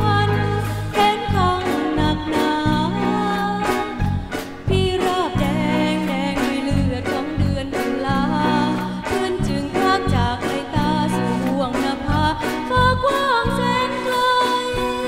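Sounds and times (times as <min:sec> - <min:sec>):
instrumental backing with beat: 0:00.0 - 0:15.0
person singing: 0:00.0 - 0:15.0.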